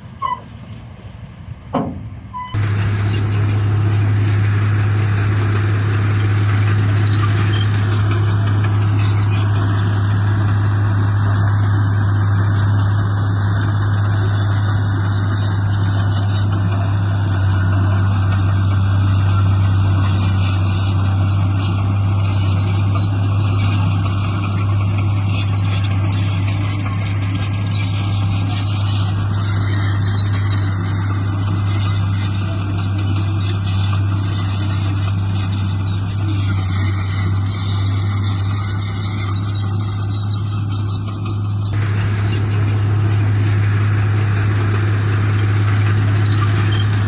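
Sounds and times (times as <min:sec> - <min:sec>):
heavy diesel engine humming: 0:00.0 - 0:47.0.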